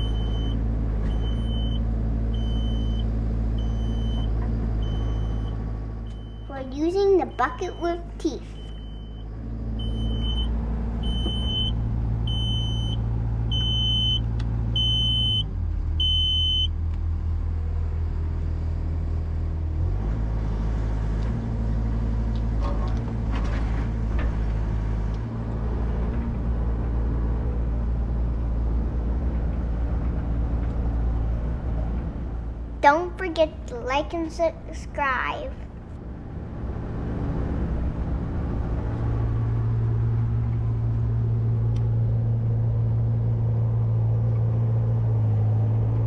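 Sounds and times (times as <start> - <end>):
diesel engines droning: 0.0 - 46.0.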